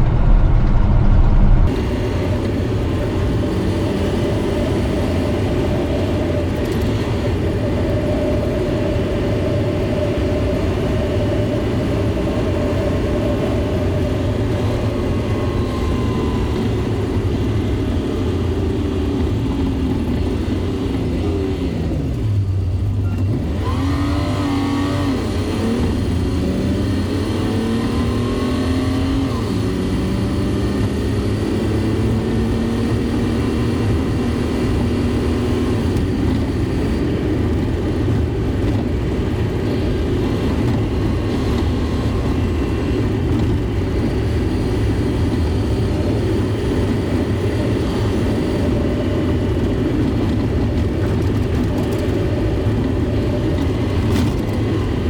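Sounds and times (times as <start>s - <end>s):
truck diesel engine: 0.0s - 55.0s.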